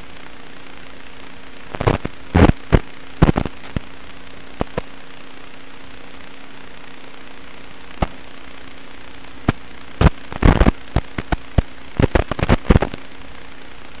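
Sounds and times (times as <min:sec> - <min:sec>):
faint hum: 0:00.0 - 0:14.0
receiver static hiss: 0:00.0 - 0:14.0
static crackles and pops: 0:00.0 - 0:14.0.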